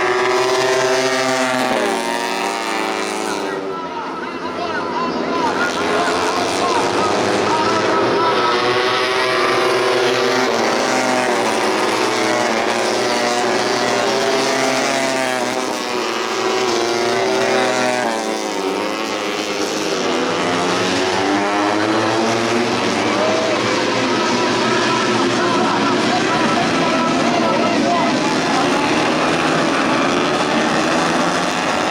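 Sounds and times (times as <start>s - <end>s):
motorcycles racing: 0.0s - 31.9s.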